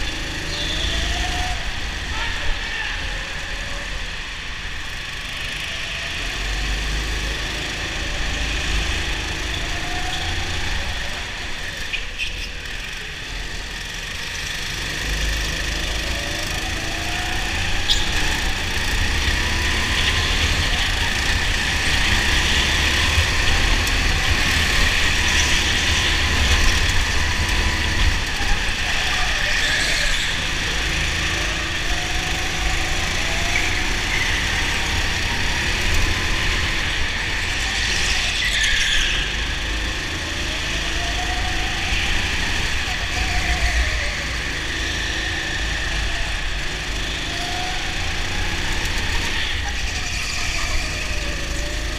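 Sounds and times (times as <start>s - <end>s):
go-kart engine: 0.0s - 51.9s.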